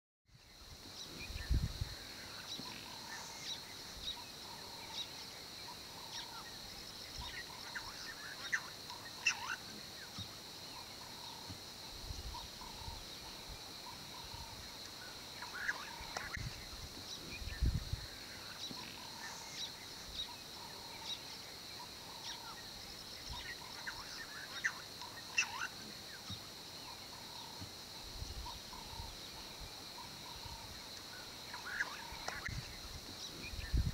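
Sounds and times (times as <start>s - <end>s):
bird calls and chirps: 0.4s - 33.9s.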